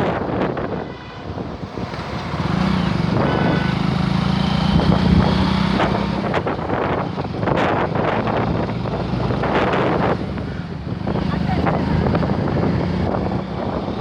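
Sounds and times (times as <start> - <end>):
vehicle engine humming: 0.0 - 13.4
rushing background noise: 0.0 - 14.0.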